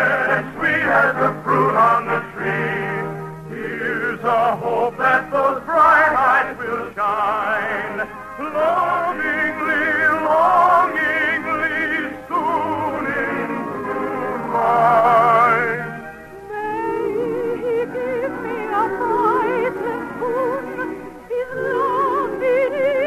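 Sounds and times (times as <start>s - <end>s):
operetta singing with vibrato: 0.0s - 23.0s
orchestral accompaniment: 0.0s - 23.0s.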